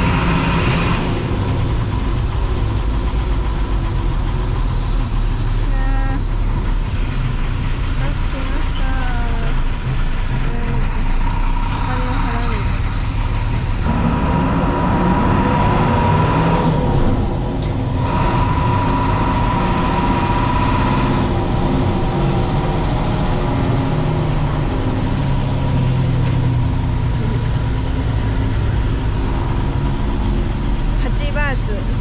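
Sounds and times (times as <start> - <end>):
bus engine low rumble: 0.0 - 32.0
high whine: 0.0 - 32.0.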